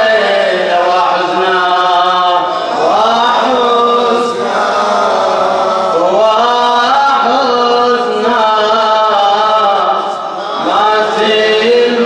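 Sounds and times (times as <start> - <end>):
man chanting a lament: 0.0 - 12.0.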